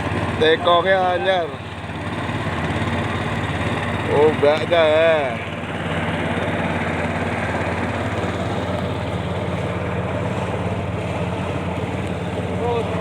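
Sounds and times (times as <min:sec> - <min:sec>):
boat engine running: 0:00.0 - 0:13.0
water noise: 0:00.0 - 0:13.0.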